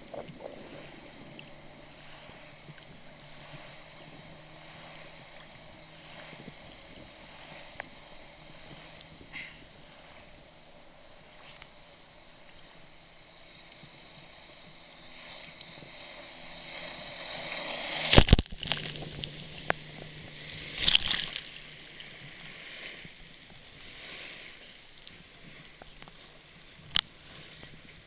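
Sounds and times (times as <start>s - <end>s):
jet ski engine: 0.0s - 28.0s
water splashing and sloshing: 0.0s - 28.0s.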